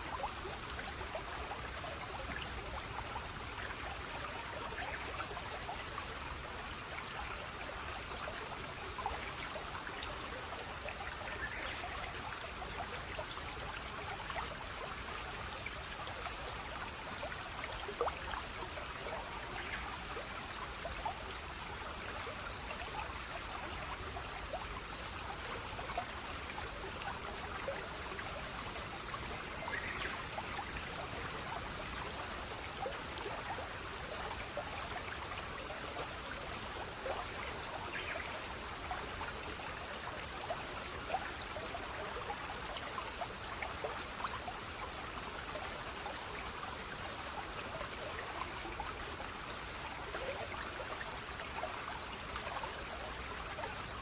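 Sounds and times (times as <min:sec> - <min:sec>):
stream water trickling: 0:00.0 - 0:54.0
water drips and plinks: 0:08.4 - 0:54.0.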